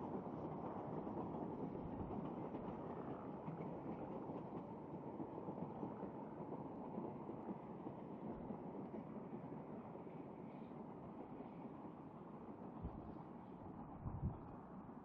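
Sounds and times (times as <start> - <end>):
distant steam train rumble: 0.0 - 15.0.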